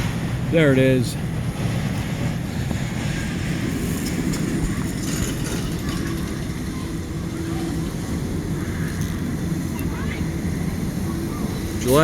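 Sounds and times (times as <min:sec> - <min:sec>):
roller coaster rumbling on track: 0:00.0 - 0:12.0
wind noise on microphone: 0:01.2 - 0:11.9.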